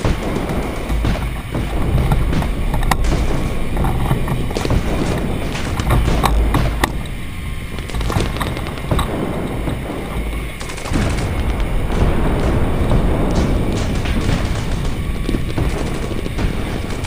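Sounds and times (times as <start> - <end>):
airsoft guns popping: 0.0 - 17.0
wind rumble on microphone: 0.0 - 17.0.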